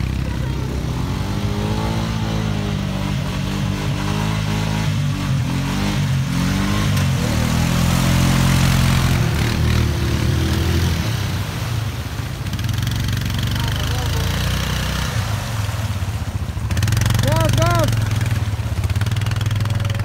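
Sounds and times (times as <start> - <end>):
water hissing: 0.0 - 19.7
quad engines revving: 0.0 - 20.0.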